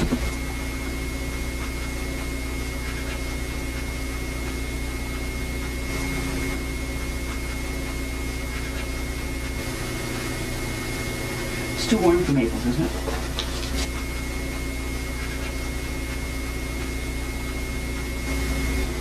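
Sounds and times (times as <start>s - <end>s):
hum and hiss: 0.0s - 19.0s
thin high whine: 0.0s - 19.0s.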